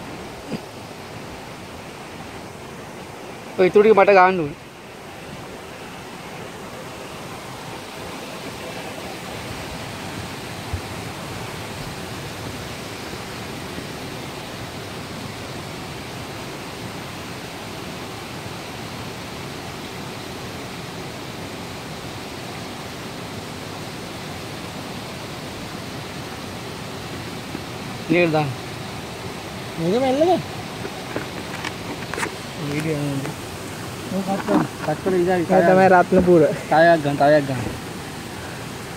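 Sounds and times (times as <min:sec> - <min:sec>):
rushing bubbling water: 0:00.0 - 0:38.9.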